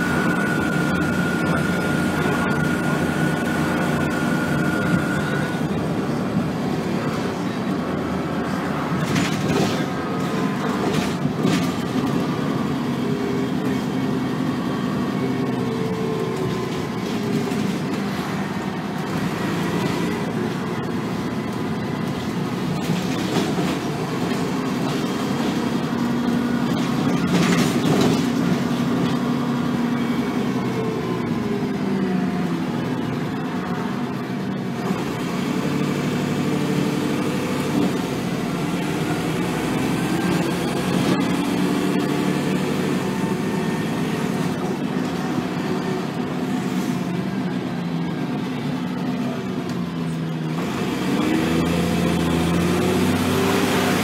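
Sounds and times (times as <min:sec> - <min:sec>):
bus engine working hard: 0:00.0 - 0:54.0.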